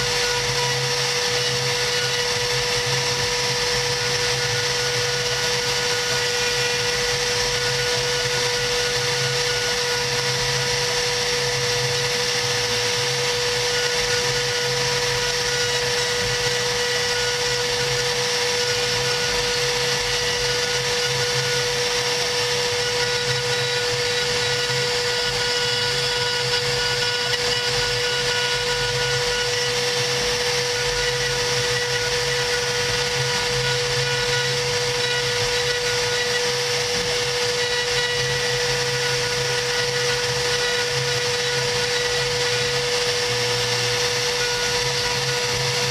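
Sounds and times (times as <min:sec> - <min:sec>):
router spindle whining: 0:00.0 - 0:45.9.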